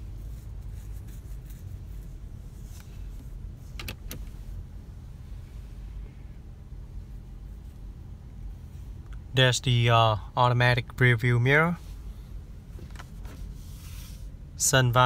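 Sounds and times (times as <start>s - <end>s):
car cabin hum: 0.0s - 15.0s.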